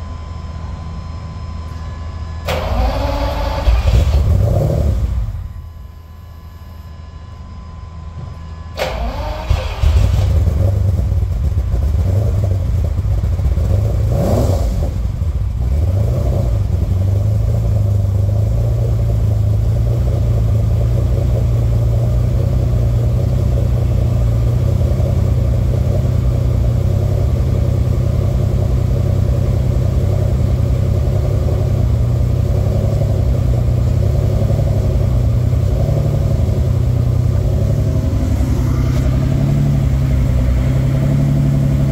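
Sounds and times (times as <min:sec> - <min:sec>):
car engine starting and idling: 0:02.4 - 0:06.8, 0:08.7 - 0:41.9.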